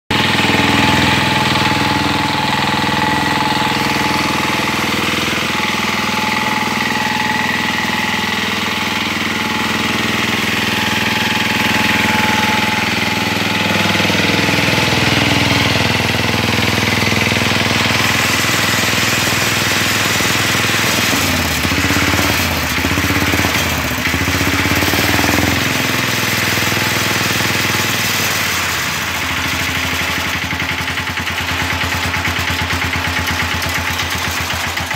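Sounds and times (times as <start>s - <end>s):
small diesel engine running: 0.1s - 34.9s.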